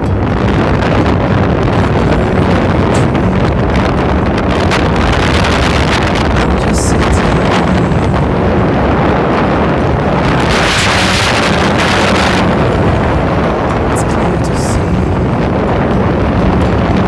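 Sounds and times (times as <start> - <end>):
motorcycle engine: 0.0 - 17.0
wind buffeting microphone: 0.0 - 17.0.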